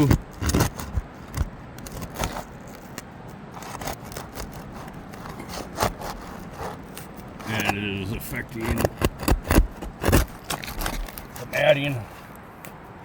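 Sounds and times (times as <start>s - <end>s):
roof shingle scraping and cracking: 0.0s - 12.3s.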